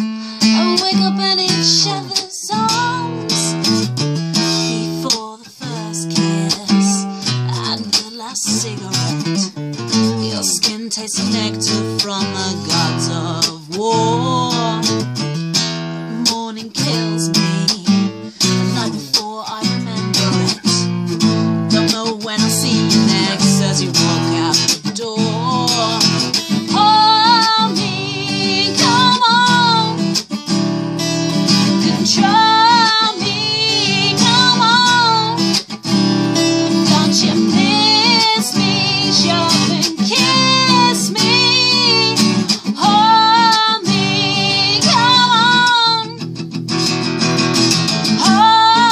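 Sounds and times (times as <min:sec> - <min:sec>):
woman singing: 0:00.0 - 0:15.2, 0:16.0 - 0:46.3, 0:48.0 - 0:48.9
acoustic guitar strumming: 0:00.0 - 0:48.9.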